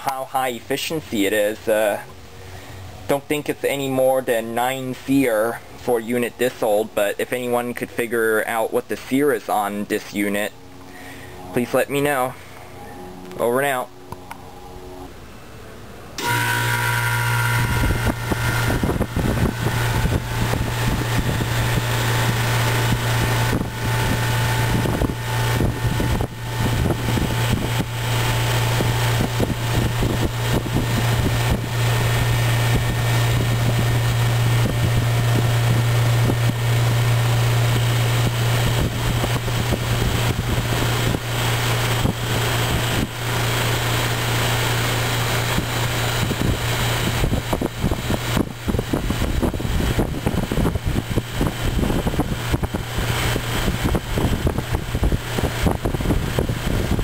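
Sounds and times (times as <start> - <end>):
compressor low hum: 0.0 - 57.0
condenser fan air rush: 0.0 - 57.0.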